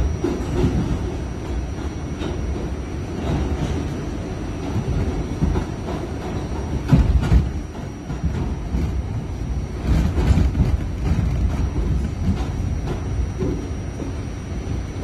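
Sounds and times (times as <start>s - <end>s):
subway car rumbling on track: 0.0s - 15.0s.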